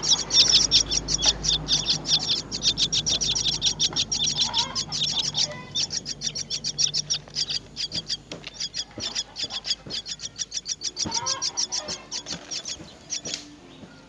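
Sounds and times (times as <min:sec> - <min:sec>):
nestlings begging chirps: 0:00.0 - 0:14.0.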